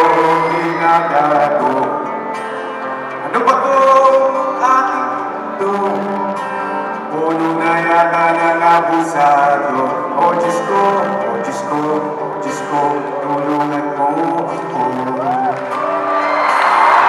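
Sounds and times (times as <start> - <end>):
man singing: 0.0 - 2.4, 3.0 - 15.8
acoustic guitar: 0.0 - 17.0.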